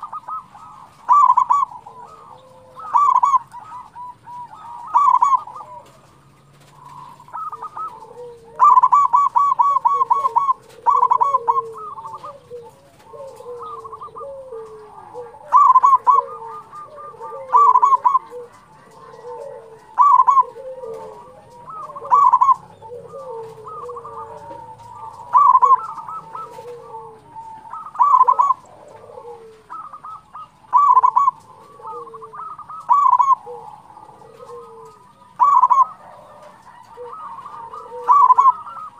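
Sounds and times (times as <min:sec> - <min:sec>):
dove cooing: 0:00.0 - 0:38.9
softer low falling coos: 0:00.0 - 0:38.9.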